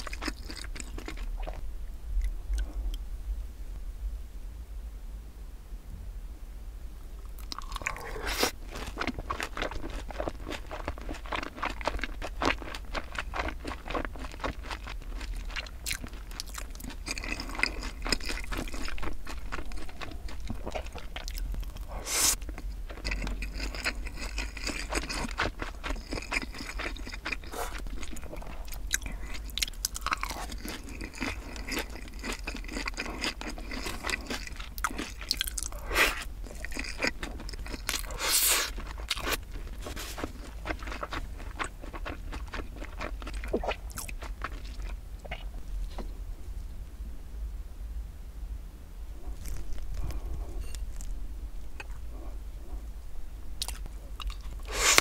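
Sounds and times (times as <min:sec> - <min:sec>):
chewing and crunching food: 0:00.0 - 0:03.0, 0:07.2 - 0:46.2, 0:49.1 - 0:55.0.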